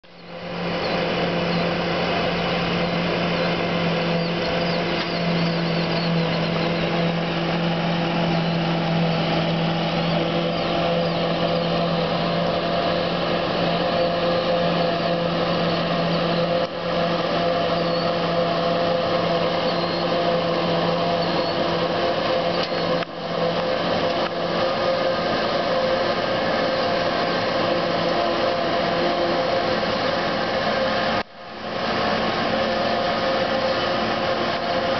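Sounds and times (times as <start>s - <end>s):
forage harvester whine: 0.0s - 34.9s
tractor engine drone: 0.0s - 34.9s.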